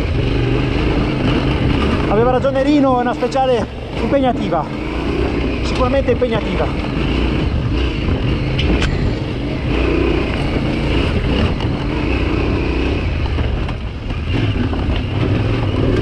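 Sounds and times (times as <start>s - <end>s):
motorcycle engine off-road: 0.0s - 16.0s.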